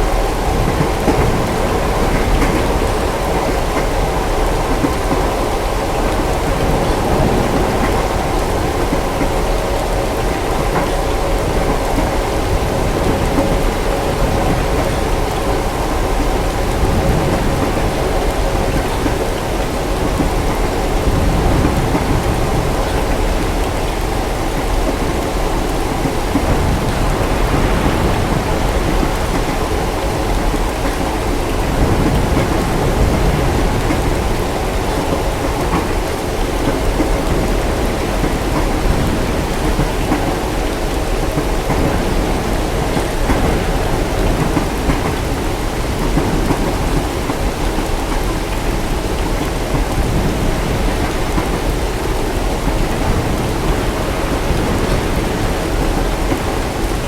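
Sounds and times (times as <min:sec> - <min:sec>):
heavy rain: 0:00.0 - 0:57.0
moving train hum: 0:00.0 - 0:57.0
thunder rumbling: 0:00.0 - 0:57.0.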